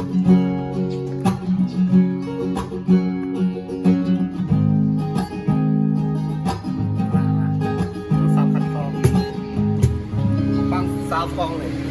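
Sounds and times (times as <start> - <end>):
acoustic guitar strumming chords: 0.0 - 11.9.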